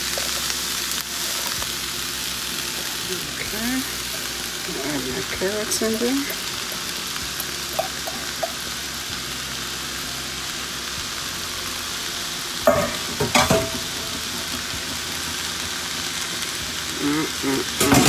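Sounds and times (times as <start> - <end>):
utensil stirring vegetables: 0.0 - 18.0
vegetables sizzling in a pan: 0.0 - 18.0.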